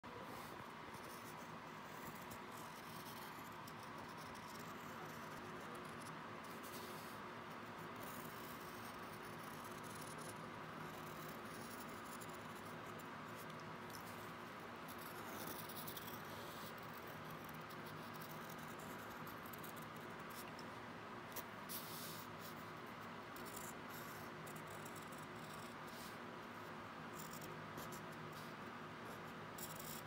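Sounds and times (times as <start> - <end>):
low room tone hiss: 0.0 - 30.0
pen scratching on paper: 0.2 - 14.3, 14.9 - 20.6, 21.3 - 22.7, 23.3 - 26.2, 27.2 - 30.0.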